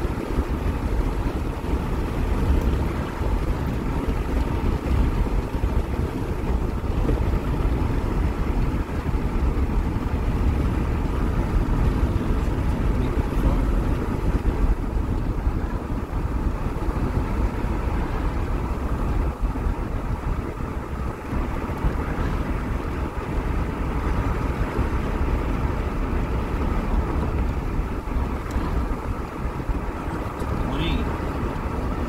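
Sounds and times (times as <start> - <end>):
car road and engine rumble: 0.0 - 32.0
wind noise on microphone: 0.0 - 32.0.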